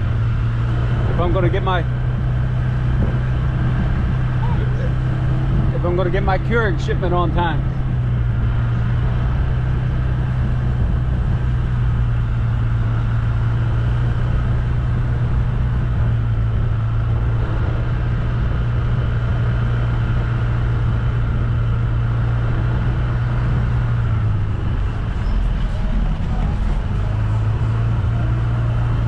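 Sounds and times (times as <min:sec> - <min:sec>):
road noise: 0:00.0 - 0:29.0
vehicle engine droning: 0:00.0 - 0:29.0.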